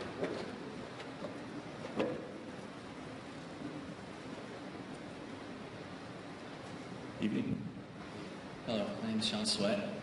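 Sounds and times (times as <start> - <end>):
room noise hiss: 0.0 - 10.0.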